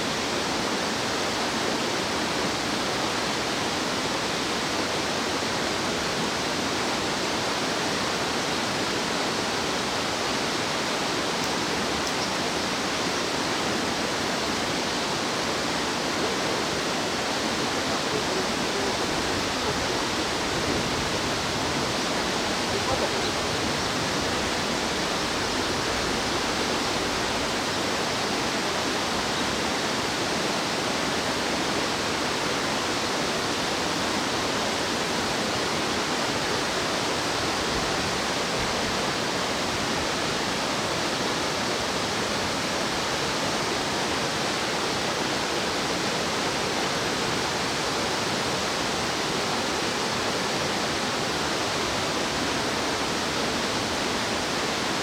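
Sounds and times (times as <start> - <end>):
fast-flowing stream water rushing: 0.0 - 55.0.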